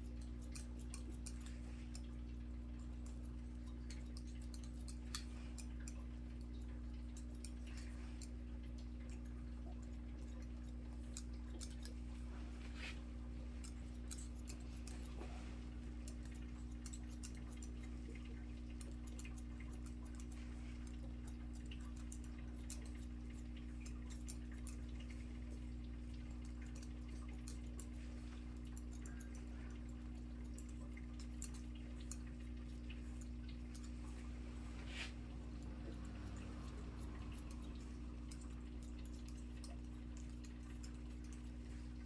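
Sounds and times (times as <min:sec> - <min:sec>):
scissors snipping hair: 0:00.0 - 0:02.2, 0:02.8 - 0:08.4, 0:10.2 - 0:42.0
steady low hum: 0:00.0 - 0:42.0.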